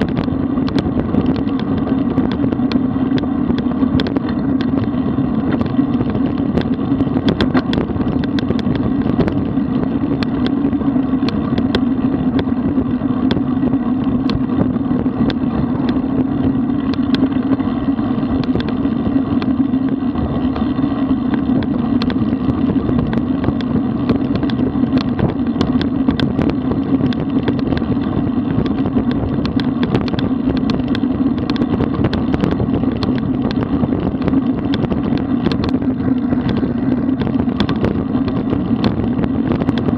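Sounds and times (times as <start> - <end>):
road noise: 0.0 - 39.9
small clicks and rattles: 0.0 - 39.9
wind rush: 0.0 - 39.9.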